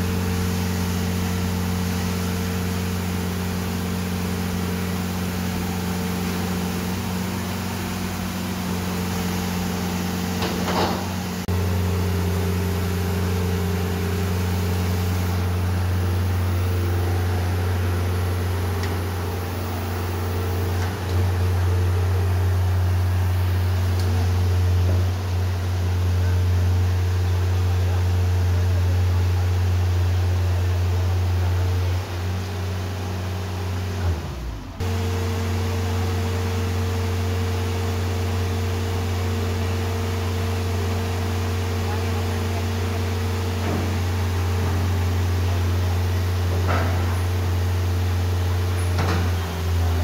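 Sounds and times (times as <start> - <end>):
truck engine idling: 0.0 - 50.0.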